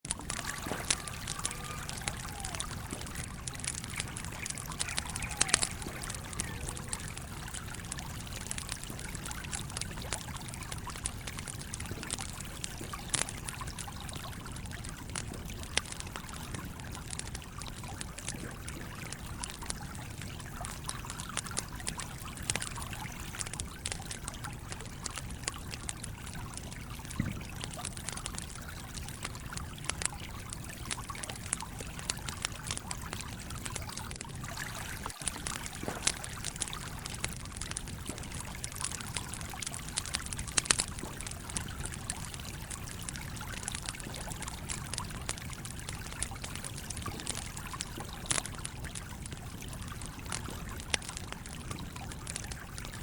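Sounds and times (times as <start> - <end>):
campfire crackling: 0.0 - 53.0
stream trickling: 0.0 - 53.0.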